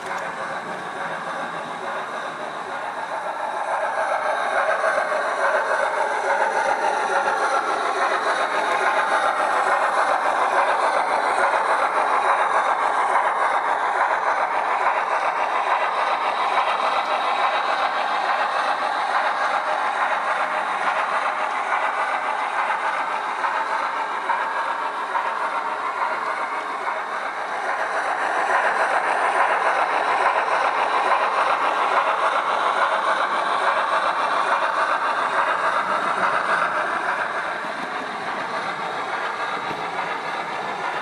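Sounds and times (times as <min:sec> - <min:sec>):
model steam locomotive sound: 0:00.0 - 0:41.0.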